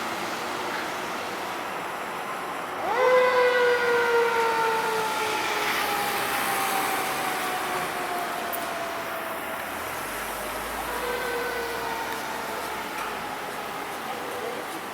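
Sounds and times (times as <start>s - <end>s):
passing traffic: 0.0s - 14.9s
fire engine siren: 2.1s - 14.9s.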